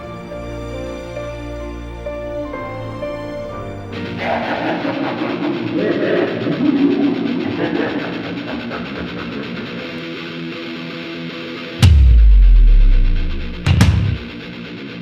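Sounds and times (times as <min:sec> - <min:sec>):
background music with guitar: 0:00.0 - 0:15.0.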